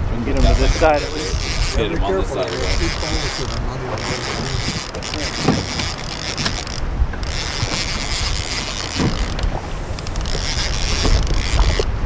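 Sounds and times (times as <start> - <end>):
wind rumbling on microphone: 0.0 - 12.0
fishing reel whirring and clicking: 0.3 - 12.0.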